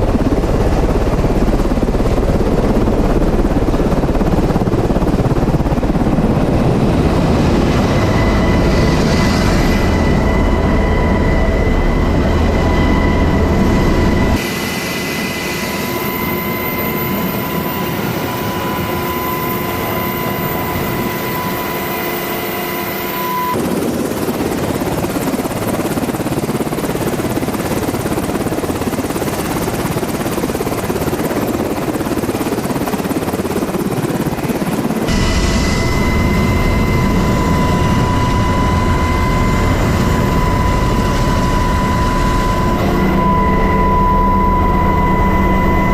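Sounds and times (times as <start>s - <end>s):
helicopter rotor and turbine whine: 0.0s - 45.9s.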